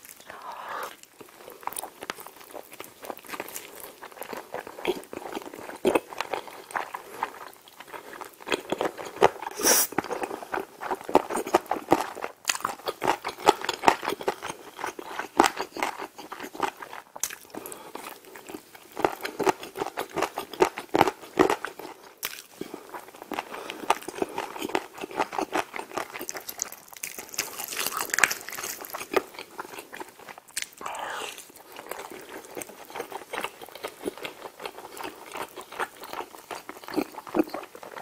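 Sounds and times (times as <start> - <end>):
chewing with wet clicks: 0.9 - 38.0.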